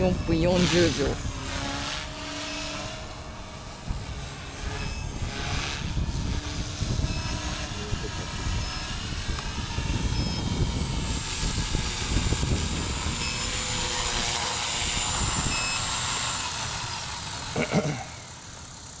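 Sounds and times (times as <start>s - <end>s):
wind rumble on microphone: 0.0s - 2.0s, 2.6s - 16.1s
rc helicopter motor whining: 0.0s - 19.0s.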